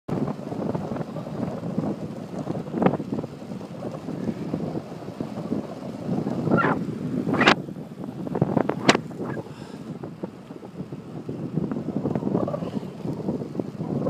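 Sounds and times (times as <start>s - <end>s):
rough rumble of bike ride: 0.1s - 14.0s
wind buffeting microphone: 0.1s - 14.0s.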